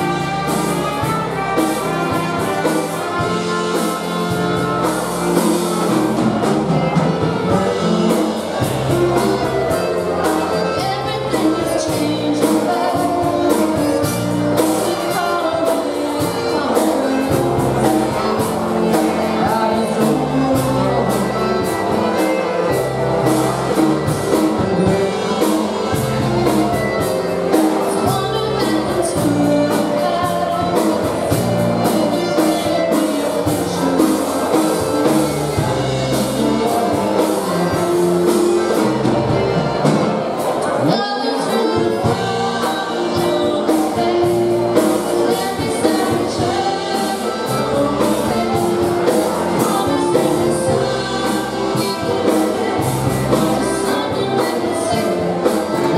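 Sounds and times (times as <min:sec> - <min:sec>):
person singing: 0:00.0 - 0:55.9
polka band playing: 0:00.0 - 0:55.9.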